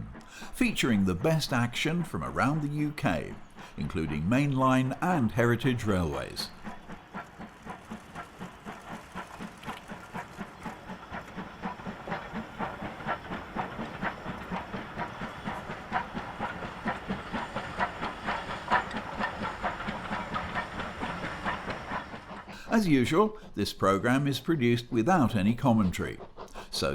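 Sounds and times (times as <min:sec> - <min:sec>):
steam hissing: 0:00.0 - 0:23.9
steam locomotive chuffing: 0:00.0 - 0:26.9.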